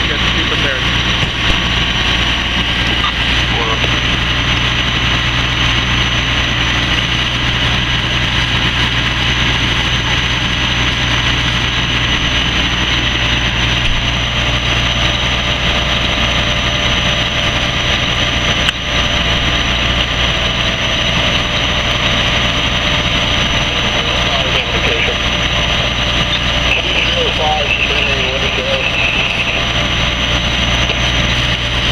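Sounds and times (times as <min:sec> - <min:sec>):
fire engine pump drone: 0:00.0 - 0:31.9.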